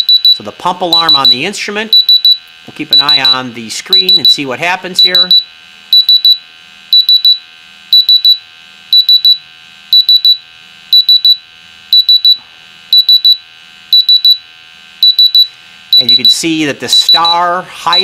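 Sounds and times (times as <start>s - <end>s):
gas detector alarm beeps: 0.0s - 18.0s.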